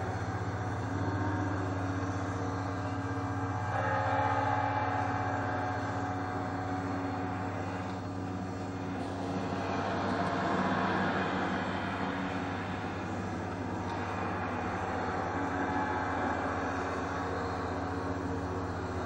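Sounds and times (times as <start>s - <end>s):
dense steady rumble: 0.0s - 19.0s
low hum: 0.0s - 19.0s.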